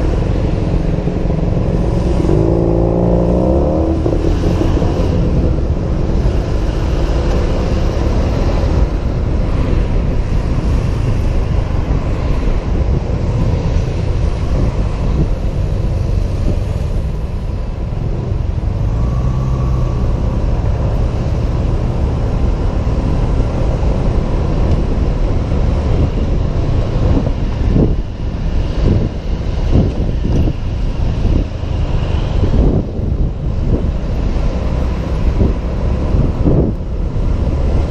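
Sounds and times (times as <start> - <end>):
wind rushing over a camera: 0.0 - 37.9.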